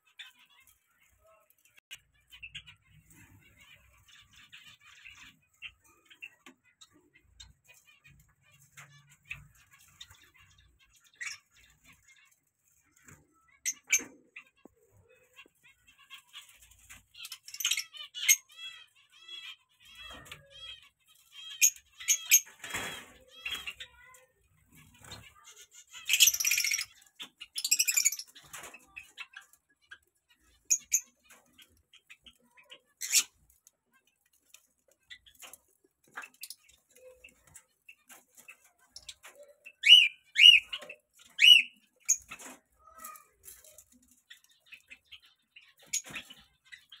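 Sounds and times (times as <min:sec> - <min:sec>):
finches chirping: 0:00.0 - 0:47.0.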